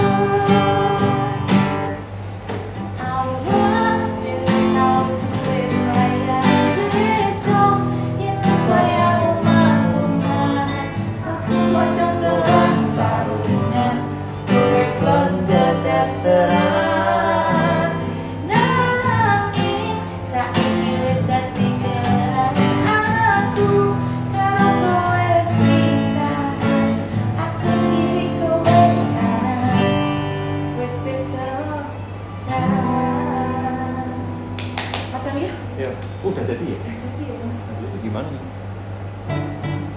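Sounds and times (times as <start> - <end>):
woman singing a slow song: 0.0 - 2.2, 2.8 - 35.5
strummed acoustic guitar: 0.0 - 35.2, 38.9 - 39.9.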